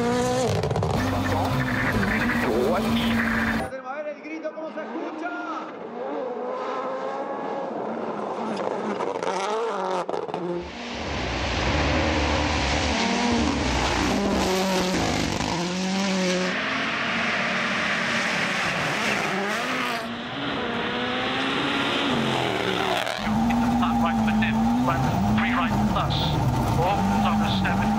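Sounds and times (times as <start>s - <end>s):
rally car engines revving: 0.0s - 3.7s, 4.8s - 27.9s.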